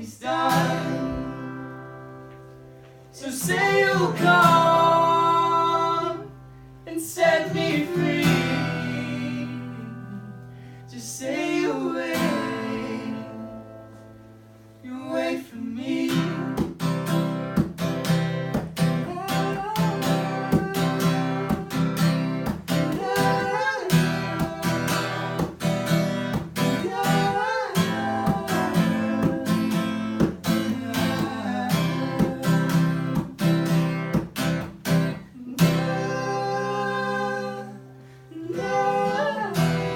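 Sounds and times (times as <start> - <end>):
acoustic guitar strumming: 0.2 - 10.9, 11.9 - 14.8, 16.0 - 39.9.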